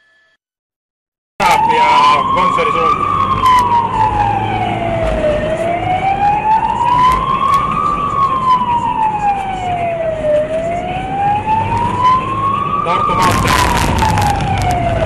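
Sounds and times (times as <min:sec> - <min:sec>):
police siren wailing: 0:01.4 - 0:15.0.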